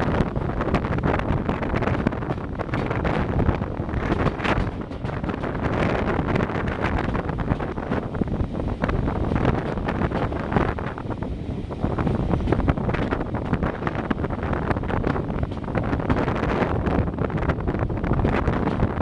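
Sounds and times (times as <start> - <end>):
diesel locomotive rumbling: 0.0 - 19.0
wind buffeting microphone: 0.0 - 19.0.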